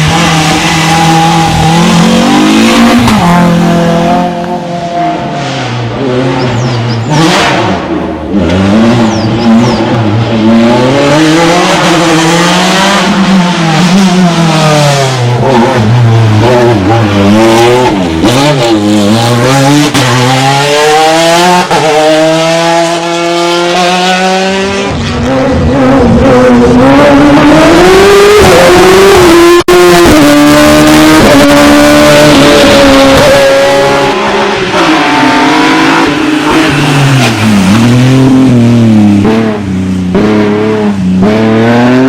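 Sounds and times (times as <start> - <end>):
racing car engine revving: 0.0 - 42.0.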